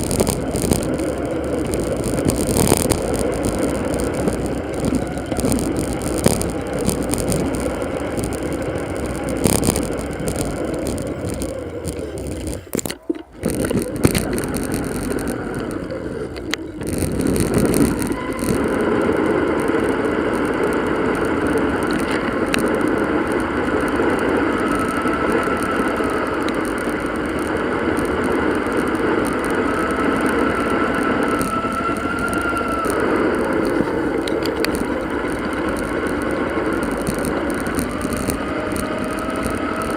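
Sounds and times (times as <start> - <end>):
bicycle road noise: 0.0 - 39.9
wind noise: 0.0 - 39.9.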